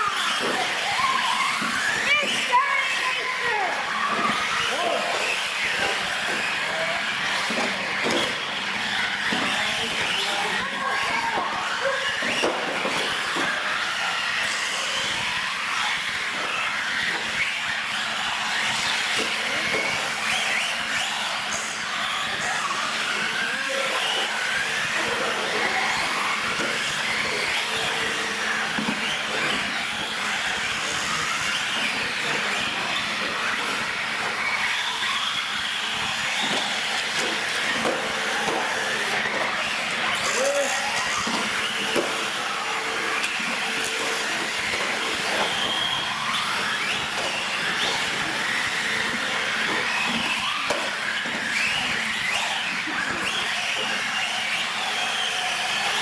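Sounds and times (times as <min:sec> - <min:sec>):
rc truck electric motors whining: 0:00.0 - 0:56.0.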